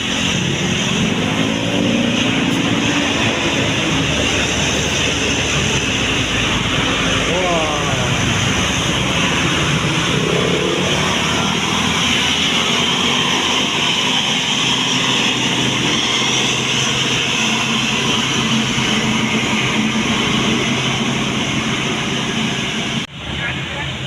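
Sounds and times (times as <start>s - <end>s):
bus engine rumble: 0.0s - 24.0s
road noise: 0.0s - 24.0s.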